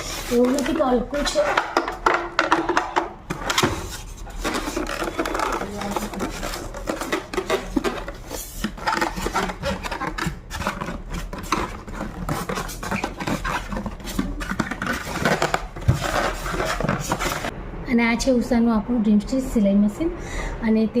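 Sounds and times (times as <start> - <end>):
packaging rubbing and scraping: 0.0 - 17.5.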